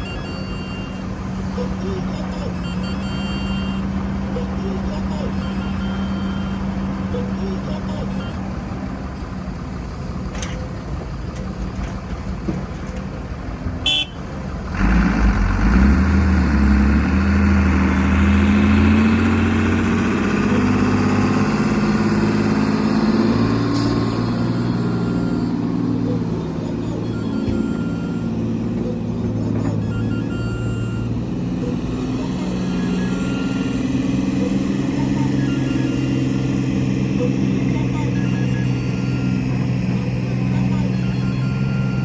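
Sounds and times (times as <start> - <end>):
diesel earthmoving machinery: 0.0 - 42.0.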